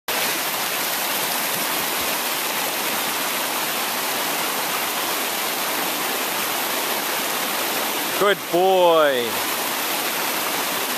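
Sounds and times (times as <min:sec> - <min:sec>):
water rushing over rocks: 0:00.1 - 0:10.9.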